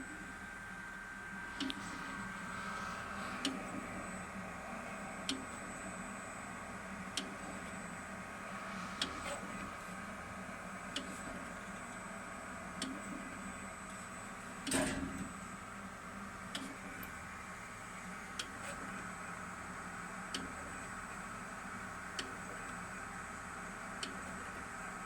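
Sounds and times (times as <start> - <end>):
soldering machine humming: 0.0 - 25.0.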